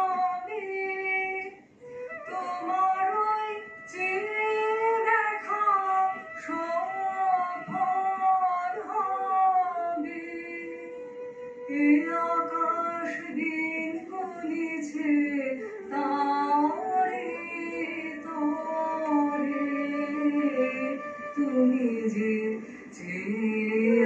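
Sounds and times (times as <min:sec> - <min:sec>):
woman singing slow song: 0:02.4 - 0:24.0.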